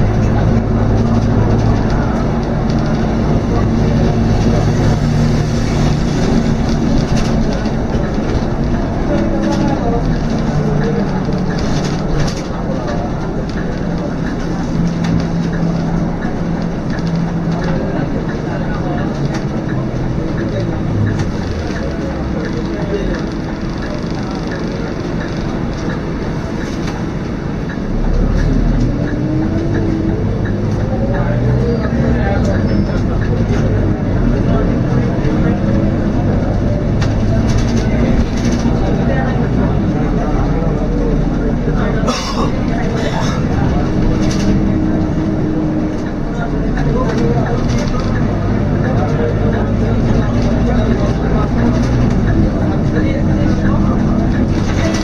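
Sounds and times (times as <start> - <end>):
bus diesel engine running: 0.0 - 55.0
road noise: 0.0 - 55.0.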